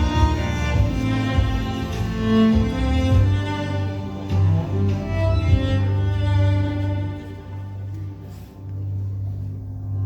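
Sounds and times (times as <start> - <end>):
cello playing low notes: 0.0 - 10.0.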